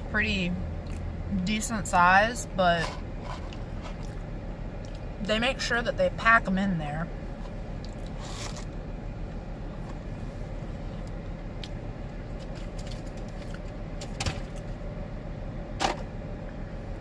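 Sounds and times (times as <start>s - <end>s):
faint constant tone: 0.0s - 17.0s
low rumble and hum: 0.0s - 17.0s.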